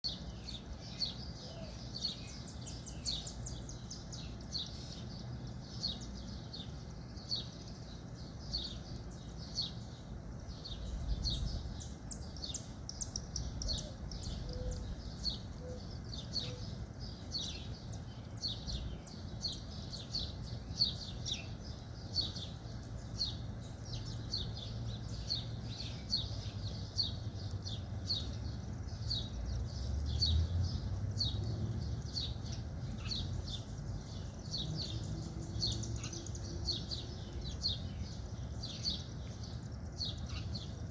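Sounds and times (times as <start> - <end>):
bird chirping: 0.0 - 40.9
low background rumble: 0.1 - 40.9.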